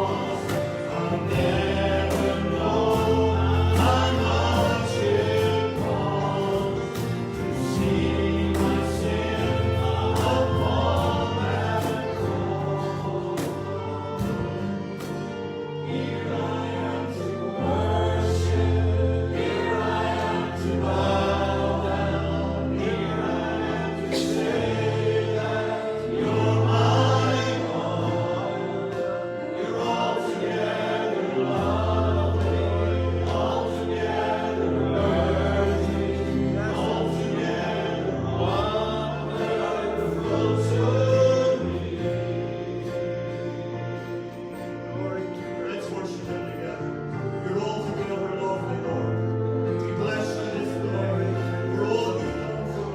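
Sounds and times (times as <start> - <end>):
instrumental accompaniment: 0.0 - 52.9
voices singing together: 0.0 - 52.9.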